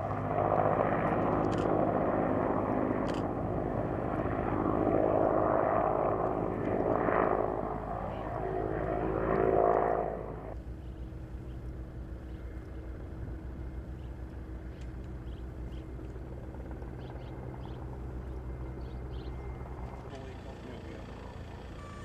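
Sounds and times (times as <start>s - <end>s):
helicopter engine and rotor: 0.0s - 22.0s
low engine hum: 0.0s - 22.0s.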